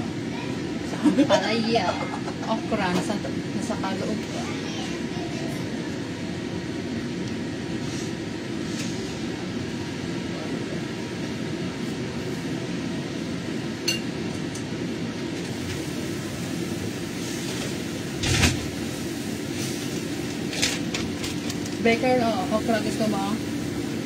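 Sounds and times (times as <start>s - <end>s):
cooking in a wok: 0.0s - 24.0s
low kitchen hum: 0.0s - 24.0s.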